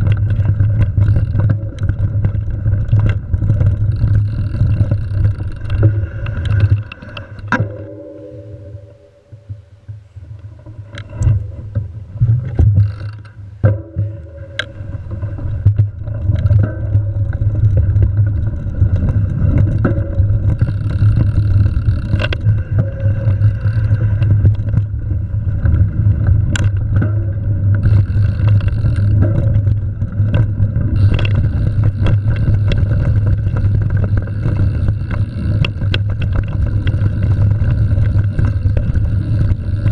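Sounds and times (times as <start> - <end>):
bike clicks and rattles: 0.0 - 7.9, 10.9 - 39.9
bike tyres rolling over dirt: 0.0 - 9.6, 10.7 - 39.9
wind on microphone: 0.0 - 39.9.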